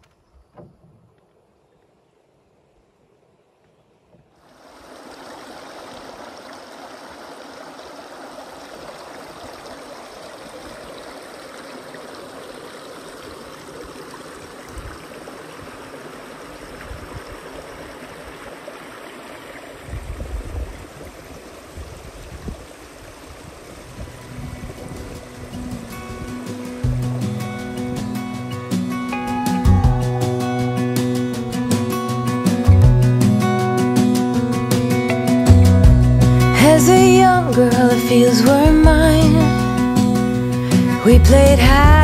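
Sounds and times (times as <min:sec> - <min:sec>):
stream running over rocks: 0:04.2 - 0:42.0.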